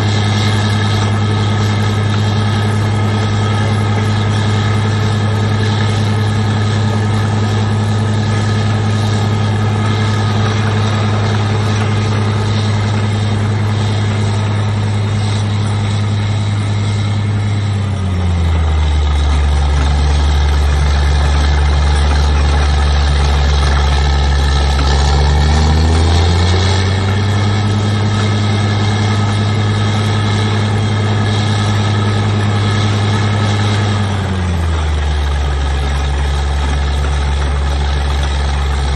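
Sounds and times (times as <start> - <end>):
drilling rig engine running: 0.0 - 38.9.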